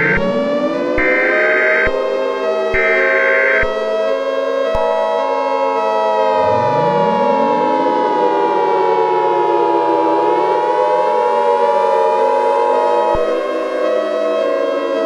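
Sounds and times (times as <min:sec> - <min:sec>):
wavering siren tones: 0:00.0 - 0:04.1, 0:04.7 - 0:15.0
civil defense siren winding up: 0:00.0 - 0:15.0.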